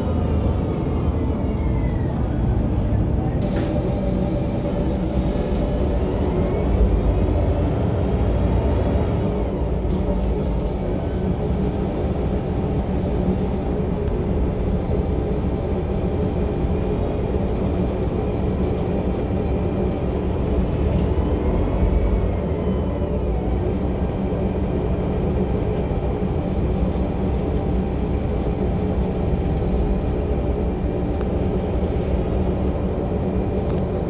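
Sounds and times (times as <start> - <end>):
bus engine rumble: 0.0 - 34.0.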